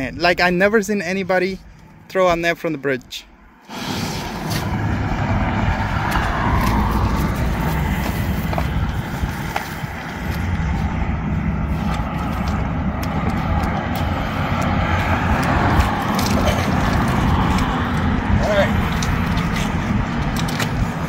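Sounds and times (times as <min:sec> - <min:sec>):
highway traffic rumble: 0:00.0 - 0:21.0.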